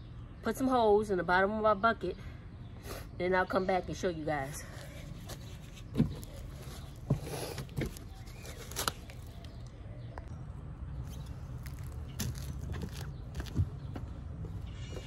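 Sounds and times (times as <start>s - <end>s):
low outdoor background: 0.0s - 15.0s.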